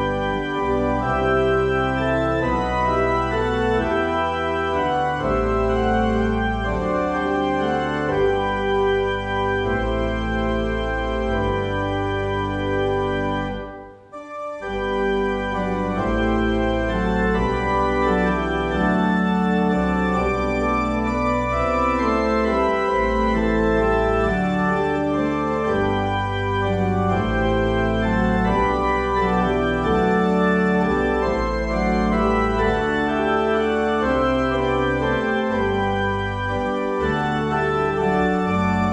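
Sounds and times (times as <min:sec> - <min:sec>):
church organ playing a hymn: 0:00.0 - 0:38.9.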